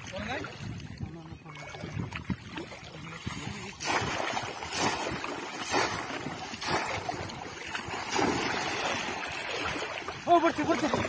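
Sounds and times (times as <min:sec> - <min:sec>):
water splashing and pouring: 0:00.0 - 0:11.0.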